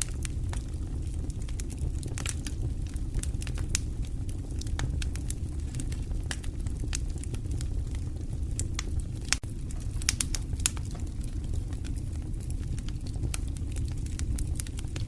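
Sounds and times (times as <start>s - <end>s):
light rain pattering: 0.0s - 15.0s
low rumble: 0.0s - 15.0s
wood fire crackling: 0.0s - 15.0s.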